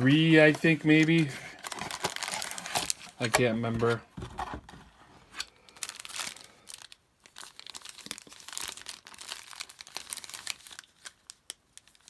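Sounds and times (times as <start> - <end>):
card packaging crinkling: 0.0 - 4.6, 5.4 - 12.0.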